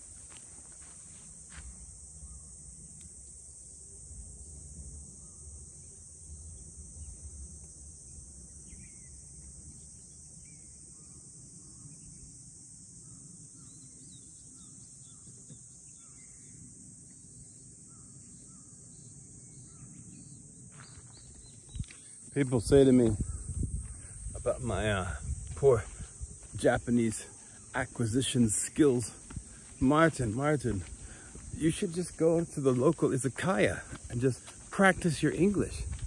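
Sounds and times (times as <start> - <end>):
insect chorus drone: 0.0 - 36.0.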